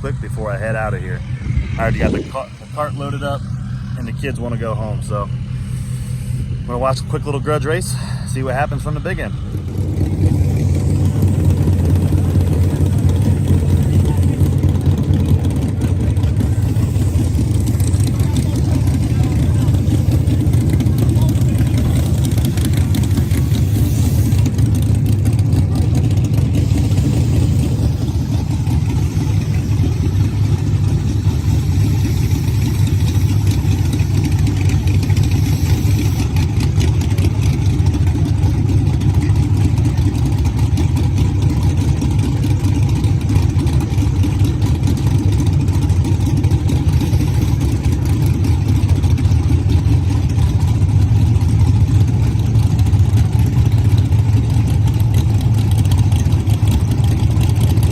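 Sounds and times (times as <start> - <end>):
race car engines idling: 0.0 - 57.9.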